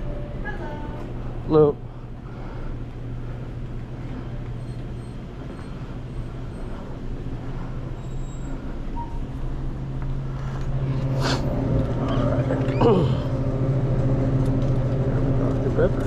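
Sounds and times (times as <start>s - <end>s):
traffic hum: 0.0s - 16.0s.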